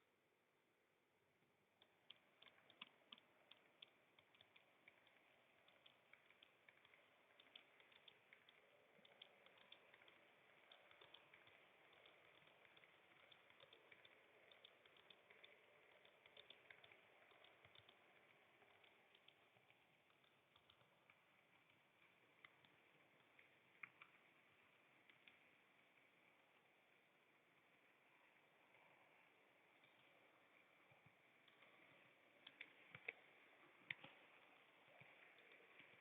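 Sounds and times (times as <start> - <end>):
model train wheels clicking: 1.7 - 36.0
model train running whir: 1.9 - 36.0.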